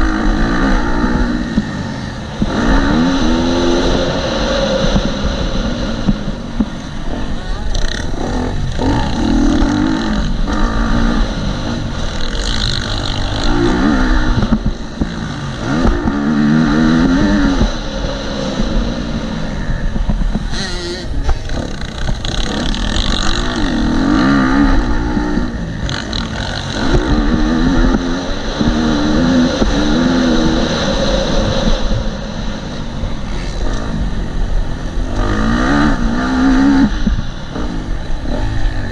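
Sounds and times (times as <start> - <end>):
motocross bike engine revving: 0.0 - 38.9
wind buffeting microphone: 0.0 - 38.9.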